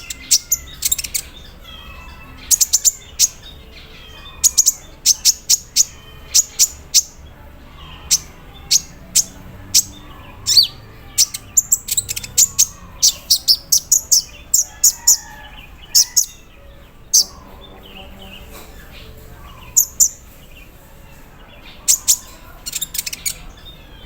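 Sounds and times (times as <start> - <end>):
bird high-pitched chips: 0.0 - 17.6, 18.3 - 24.0
soft bird twittering: 0.0 - 24.0.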